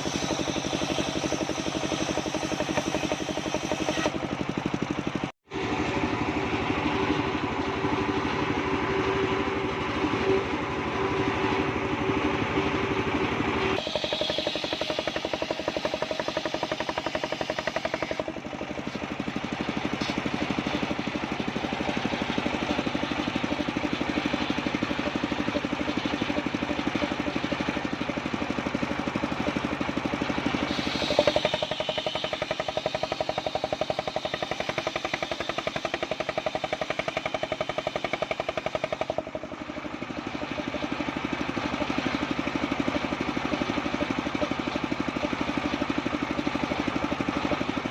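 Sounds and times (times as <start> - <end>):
circular saw cutting wood: 0.0 - 4.6, 5.5 - 47.9.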